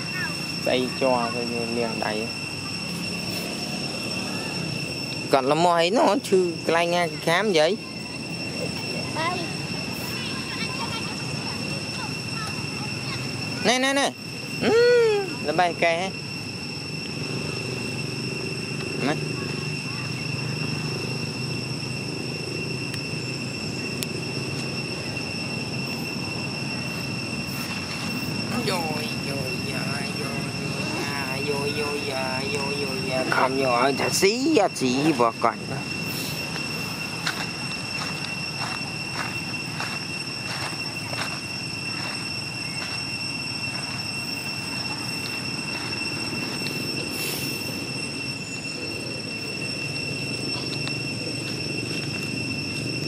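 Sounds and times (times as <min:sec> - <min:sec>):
high-pitched whine: 0:00.0 - 0:53.0.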